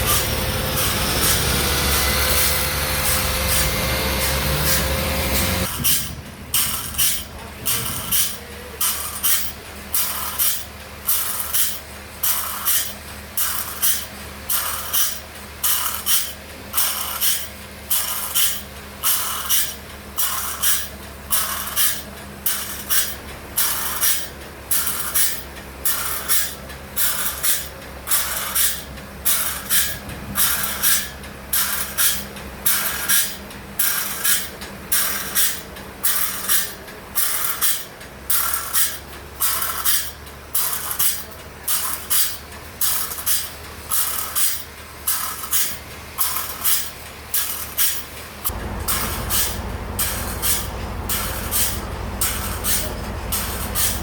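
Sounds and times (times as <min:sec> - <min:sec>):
motor hum: 0:00.0 - 0:41.2, 0:42.0 - 0:54.0
band saw rasping through log: 0:00.0 - 0:54.0.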